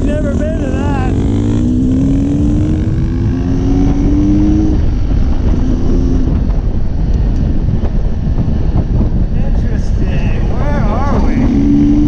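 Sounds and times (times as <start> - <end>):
dirt bike engine: 0.0 - 12.0
low rough rumble: 0.0 - 12.0.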